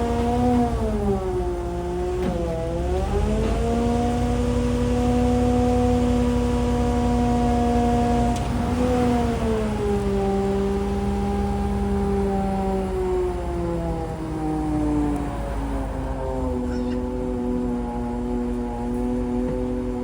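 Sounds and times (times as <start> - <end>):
machine engine whine: 0.0 - 20.0.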